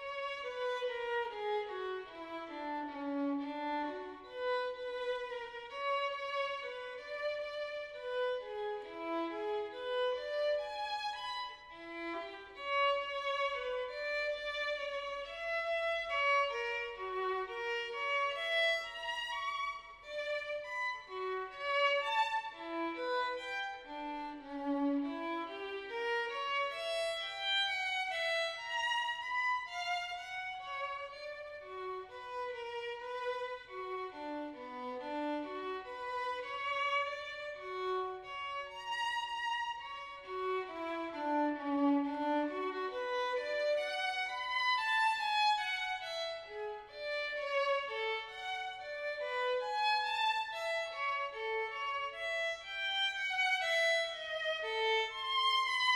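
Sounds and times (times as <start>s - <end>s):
violin melody: 0.0s - 55.9s.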